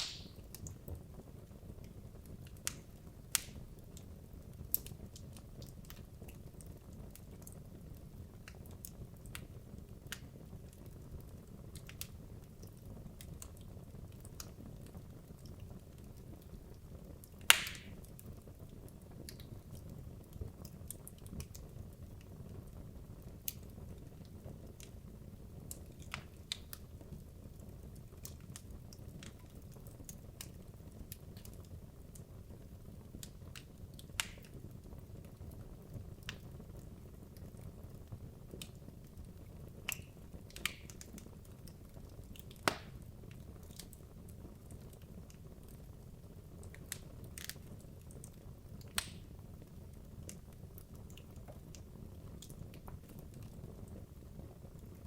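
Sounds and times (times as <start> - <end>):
fire rumbling: 0.0 - 55.0
wood crackling and popping: 0.0 - 55.0.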